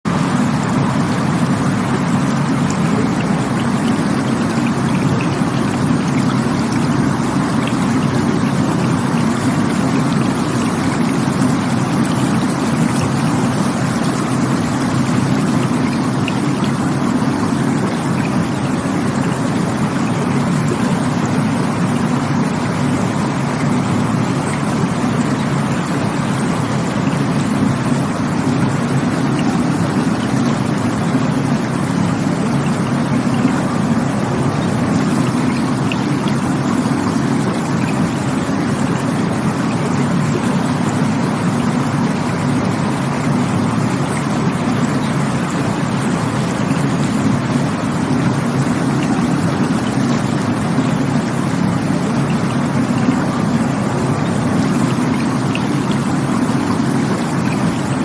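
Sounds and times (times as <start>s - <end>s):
rushing stream water: 0.1s - 58.0s.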